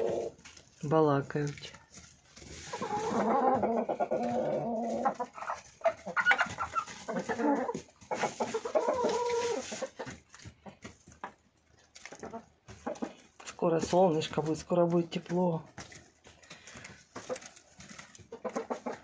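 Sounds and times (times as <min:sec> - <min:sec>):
chickens clucking: 0:00.0 - 0:00.8, 0:01.4 - 0:19.0.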